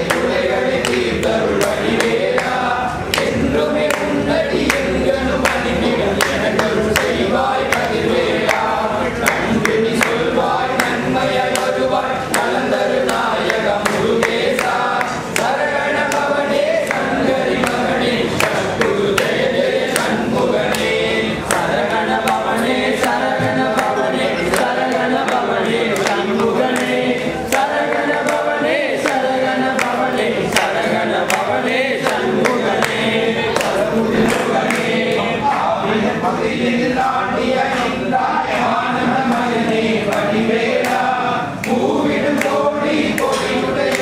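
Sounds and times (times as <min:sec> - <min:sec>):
men singing a hymn: 0:00.0 - 0:44.0.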